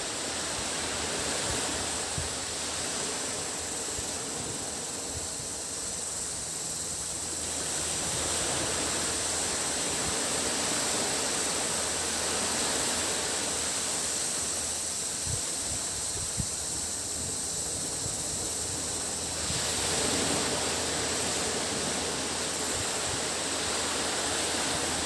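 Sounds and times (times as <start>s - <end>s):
cicadas droning: 0.0s - 25.0s
sea waves washing onto beach: 0.0s - 25.0s.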